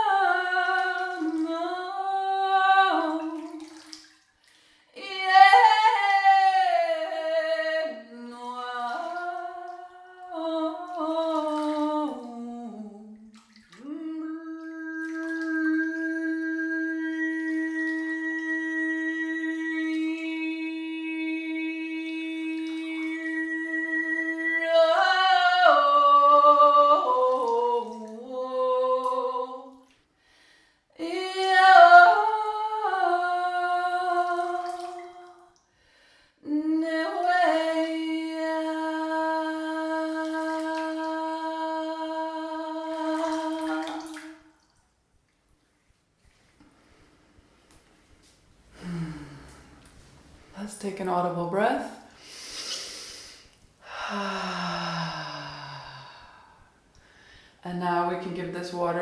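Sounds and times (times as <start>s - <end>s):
woman singing wordless melody: 0.0s - 4.0s, 4.9s - 29.9s, 31.0s - 35.6s, 36.4s - 44.6s, 50.6s - 52.2s, 53.9s - 56.6s, 57.6s - 59.0s.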